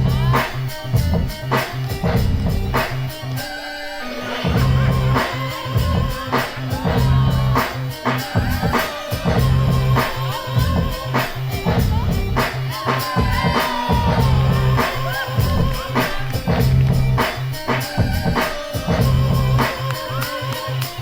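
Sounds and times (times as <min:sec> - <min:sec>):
sung vocal: 0:00.0 - 0:01.5, 0:03.1 - 0:21.0
hip-hop break music: 0:00.0 - 0:21.0.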